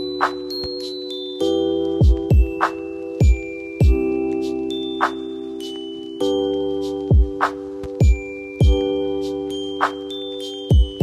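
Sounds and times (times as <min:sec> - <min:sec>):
held chime-like chord: 0:00.0 - 0:11.0.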